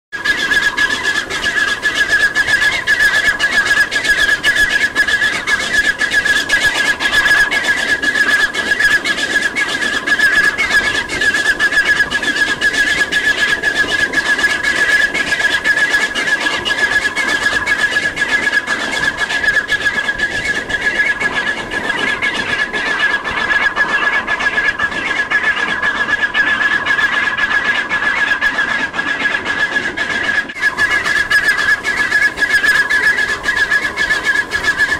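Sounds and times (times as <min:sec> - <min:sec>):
steady high-pitched whine: 0:00.2 - 0:34.9.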